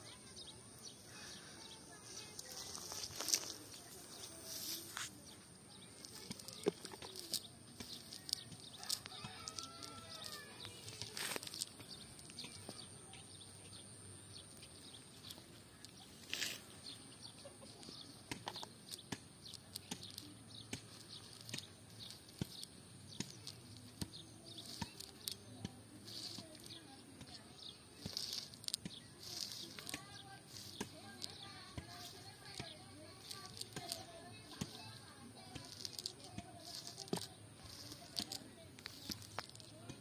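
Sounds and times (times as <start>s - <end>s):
net and dry grass rustling: 1.2s - 12.8s, 14.9s - 17.1s, 18.9s - 40.0s.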